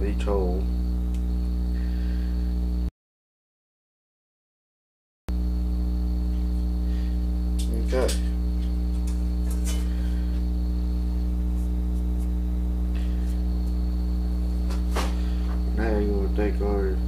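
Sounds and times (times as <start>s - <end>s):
electrical mains hum: 0.0s - 2.9s, 5.3s - 17.0s.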